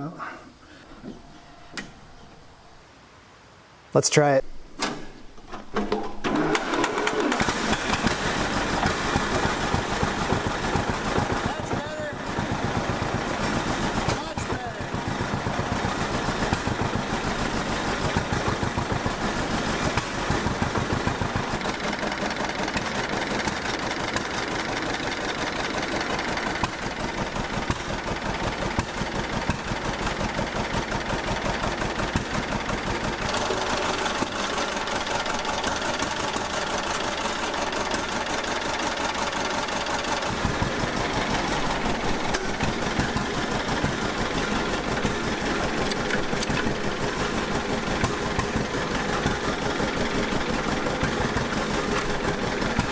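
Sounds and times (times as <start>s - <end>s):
two-cylinder engine running: 5.5s - 52.9s.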